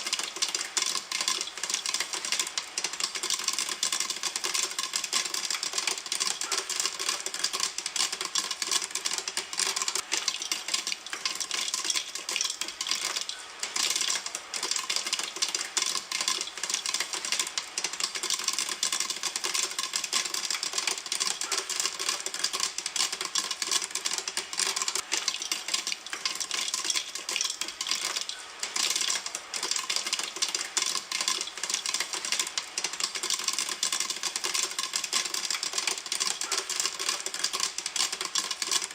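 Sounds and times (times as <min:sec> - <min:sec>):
popcorn popping in a pan: 0:00.0 - 0:38.9.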